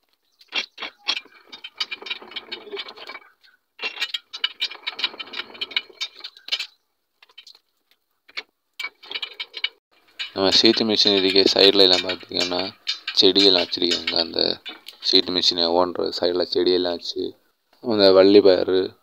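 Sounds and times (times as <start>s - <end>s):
roller gears rattling: 0.5s - 7.6s, 8.3s - 17.1s.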